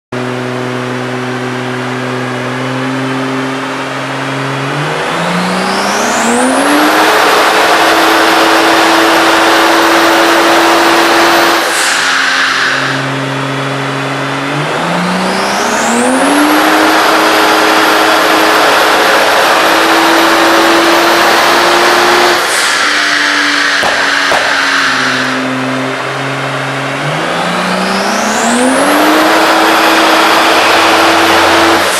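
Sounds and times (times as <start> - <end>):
car engine revving on dyno: 0.1 - 31.9.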